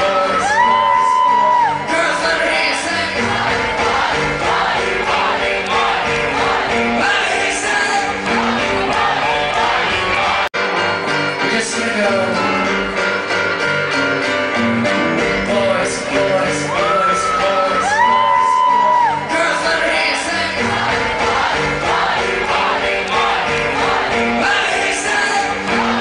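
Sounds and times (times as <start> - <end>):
man singing lead: 0.0 - 3.8, 4.8 - 13.3, 14.2 - 21.3, 22.2 - 26.0
rock band playing live: 0.0 - 26.0.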